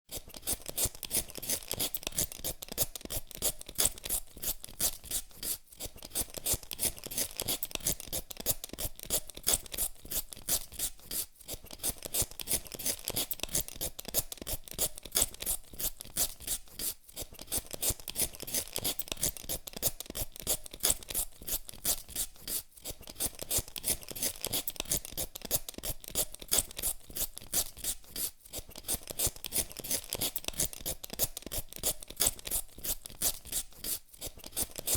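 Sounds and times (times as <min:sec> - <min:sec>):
peeler scraping potato skin: 0:00.1 - 0:34.9.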